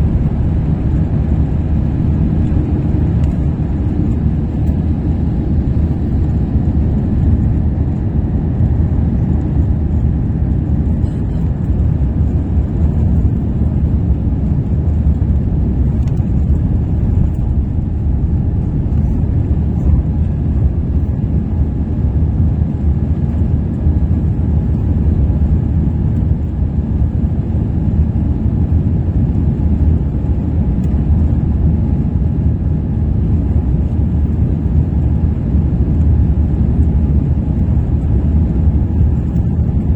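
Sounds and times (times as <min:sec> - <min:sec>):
jet engines during takeoff: 0:00.0 - 0:39.9.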